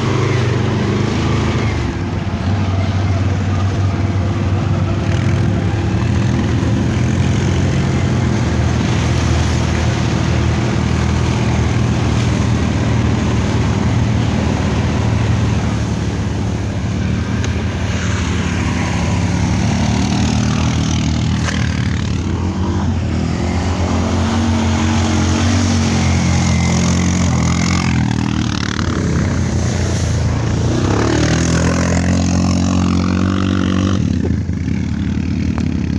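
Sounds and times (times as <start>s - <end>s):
quad bike engines revving: 0.0s - 35.9s.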